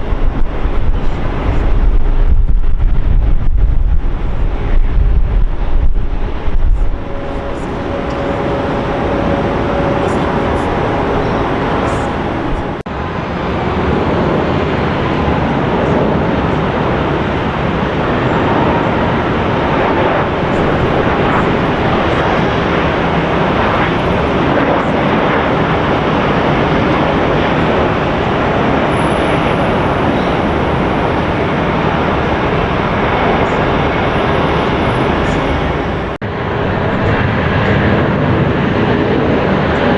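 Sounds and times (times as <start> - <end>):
jet engine rushing: 0.0 - 39.9.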